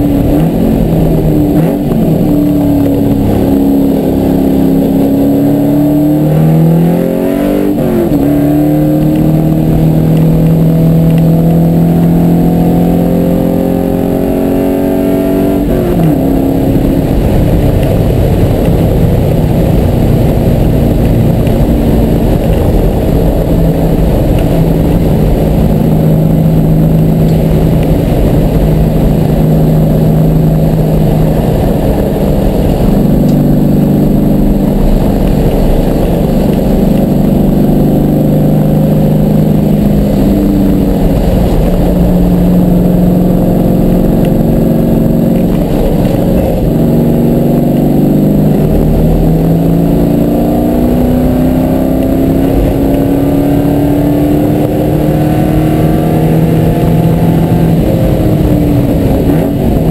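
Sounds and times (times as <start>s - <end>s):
car engine revving: 0.0s - 59.9s
wind noise: 0.0s - 59.9s.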